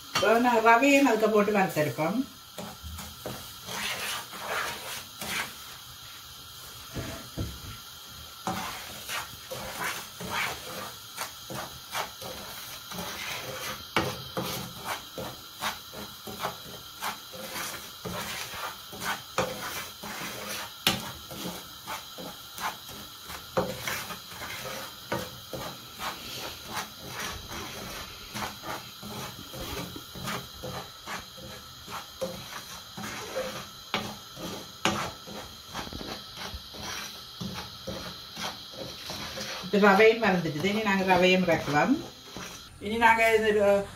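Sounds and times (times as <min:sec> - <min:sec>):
spatula scraping semolina in pan: 0:00.0 - 0:43.7
faint steady hiss: 0:00.0 - 0:43.9.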